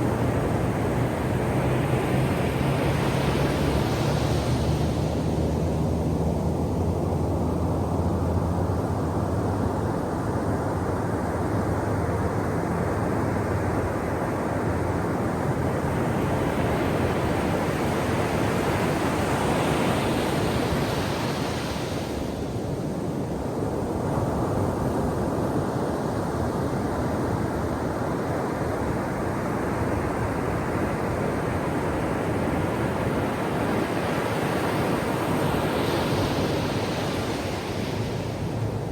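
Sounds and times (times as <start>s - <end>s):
ocean surf washing on shore: 0.0s - 38.9s.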